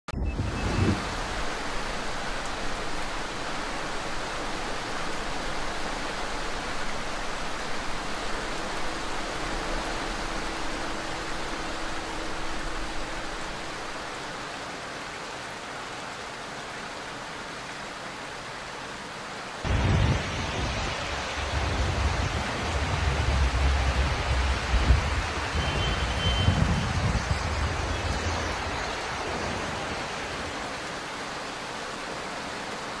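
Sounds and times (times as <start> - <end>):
heavy rain and water spray: 0.2 - 33.0.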